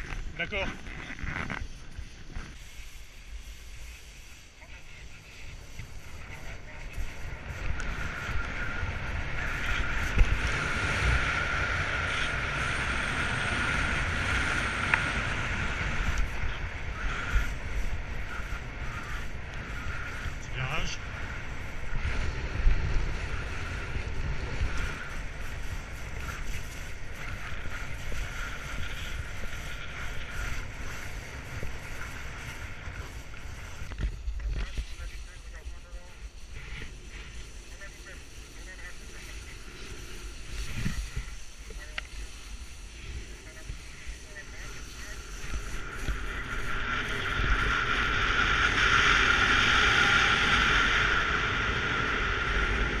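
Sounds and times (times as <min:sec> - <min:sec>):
skis sliding over snow: 0:00.0 - 0:53.0
wind rushing over microphone: 0:00.0 - 0:53.0.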